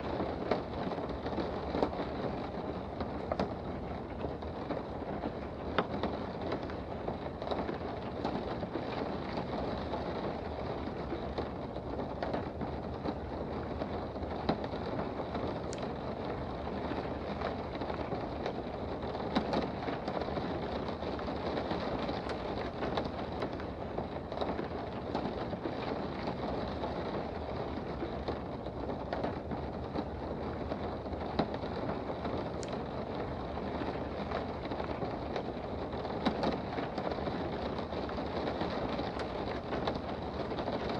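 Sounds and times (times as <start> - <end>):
raindrop ticks: 0.0 - 40.9
steady rain hiss: 0.0 - 40.9.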